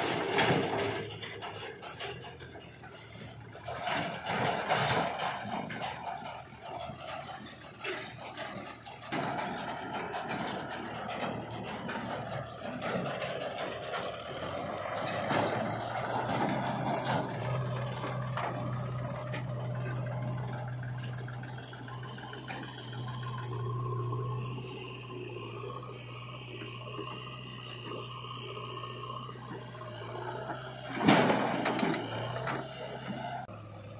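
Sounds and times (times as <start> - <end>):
diesel engines running: 0.0 - 33.9
low engine hum: 0.0 - 33.9
soil scraping and rattling: 0.0 - 33.9.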